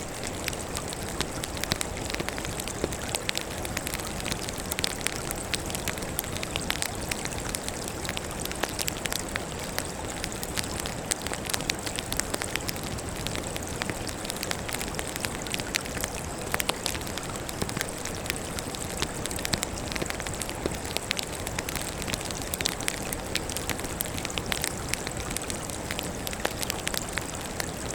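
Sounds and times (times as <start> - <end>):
firewood crackling and popping: 0.0 - 27.9.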